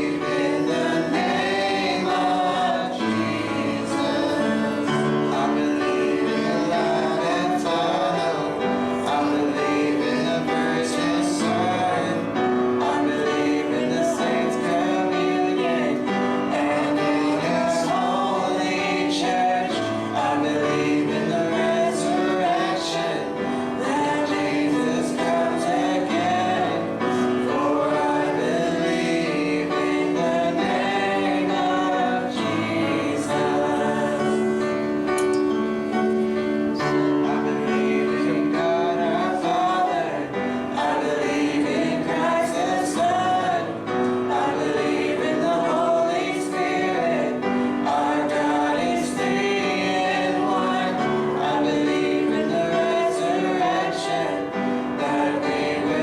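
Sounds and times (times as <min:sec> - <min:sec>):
congregation singing: 0:00.0 - 0:56.0
instrumental backing: 0:00.0 - 0:56.0.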